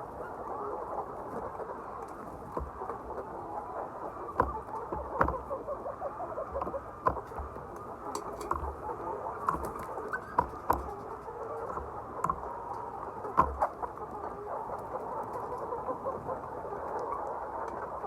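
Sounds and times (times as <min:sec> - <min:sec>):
hens chattering: 0:00.0 - 0:18.0.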